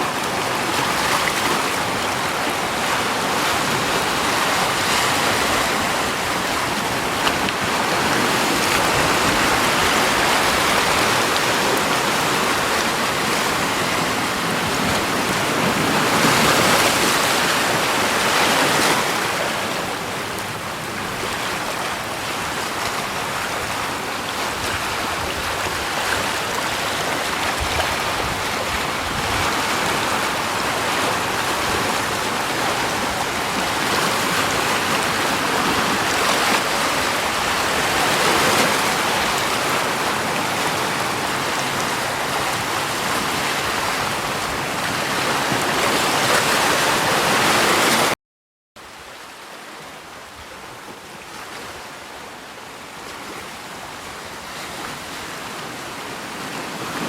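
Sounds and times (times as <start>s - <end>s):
rushing water: 0.0s - 48.2s, 48.8s - 57.0s.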